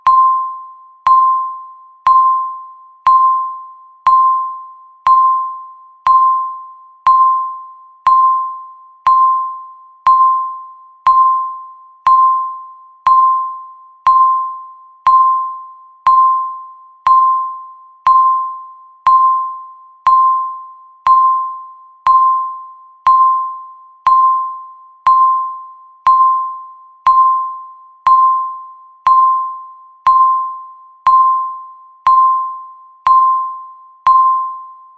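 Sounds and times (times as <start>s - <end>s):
countdown timer beeping: 0.0s - 34.9s.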